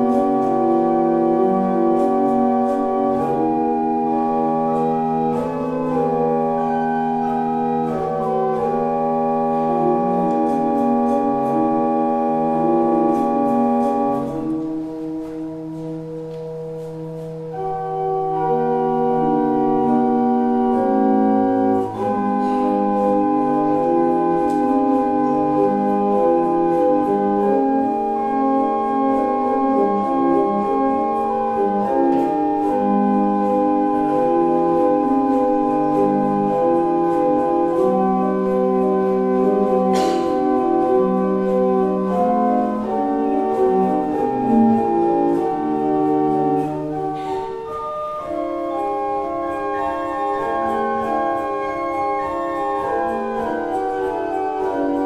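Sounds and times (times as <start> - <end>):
pipe organ chords: 0.0 - 55.0.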